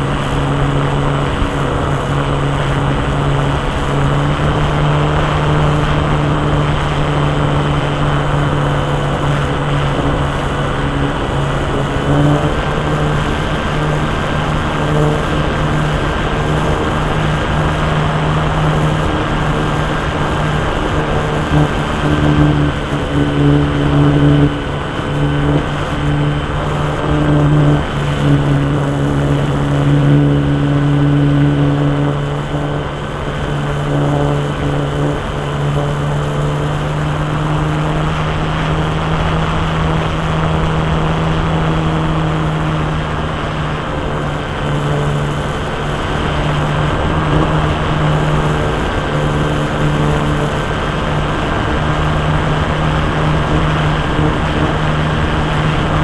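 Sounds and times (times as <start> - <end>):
model airplane engine running: 0.0 - 56.0.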